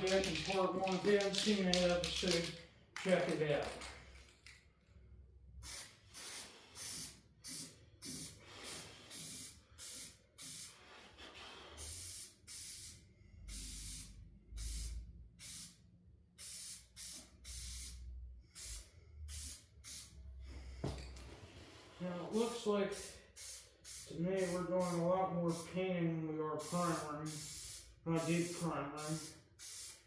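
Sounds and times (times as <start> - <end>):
spray paint can hissing: 0.0 - 3.9, 5.6 - 15.8, 16.4 - 20.2, 22.4 - 25.7, 26.6 - 30.0.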